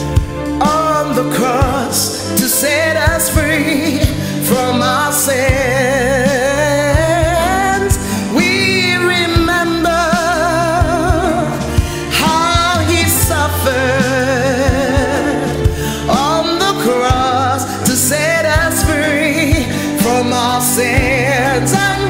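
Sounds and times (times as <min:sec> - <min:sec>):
instrumental accompaniment: 0:00.0 - 0:22.0
woman singing gospel: 0:00.0 - 0:22.0.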